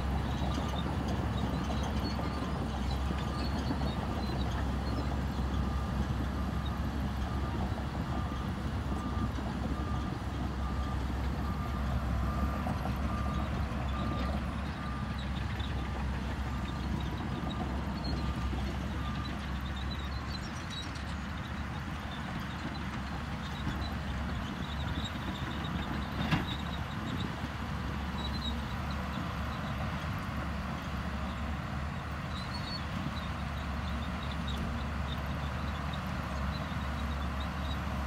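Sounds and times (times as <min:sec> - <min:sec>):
diesel engine low rumble: 0:00.0 - 0:38.0.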